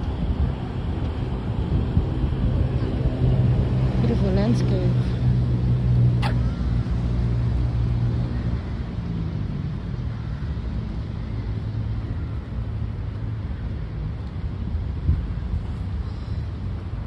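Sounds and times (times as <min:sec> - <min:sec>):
low engine hum: 0:00.0 - 0:17.0
road traffic rumble: 0:00.0 - 0:17.0.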